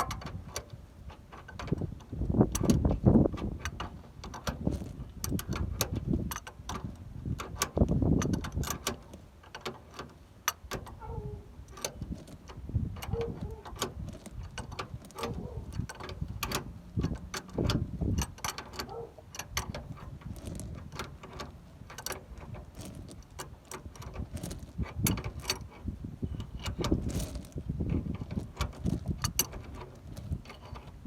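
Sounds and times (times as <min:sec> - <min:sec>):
wrench metallic clicks: 0:00.0 - 0:25.8.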